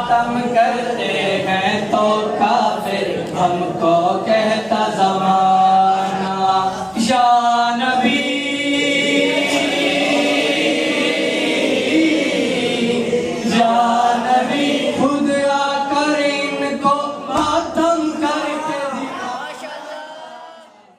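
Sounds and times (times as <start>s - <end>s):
men chanting unaccompanied: 0.0s - 20.8s.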